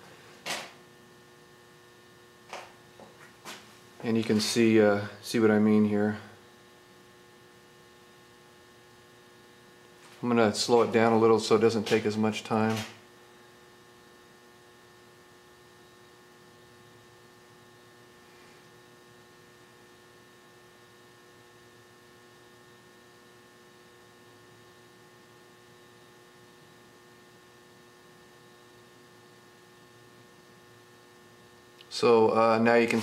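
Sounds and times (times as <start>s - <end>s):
faint electrical hum: 0.0s - 33.0s.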